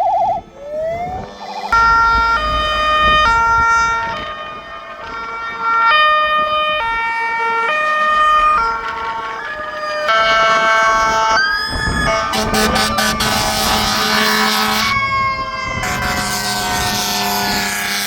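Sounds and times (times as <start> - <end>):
fire engine two-tone siren: 0.0 - 18.0
truck engine rumble: 0.0 - 18.0.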